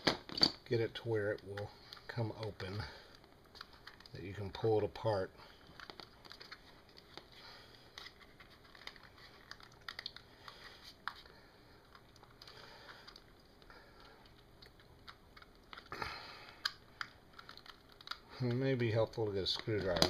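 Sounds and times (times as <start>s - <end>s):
plastic case clicking and crackling: 1.3s - 4.7s, 5.7s - 11.2s, 11.9s - 20.0s.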